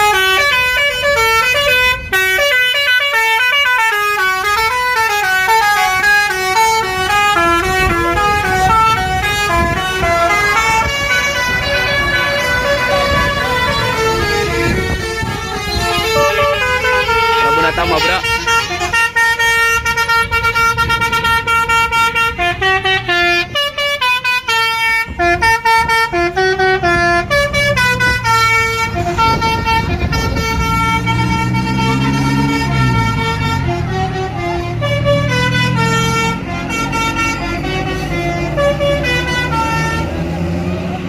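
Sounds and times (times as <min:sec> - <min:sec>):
multi-tone bus horn tune: 0:00.0 - 0:41.0.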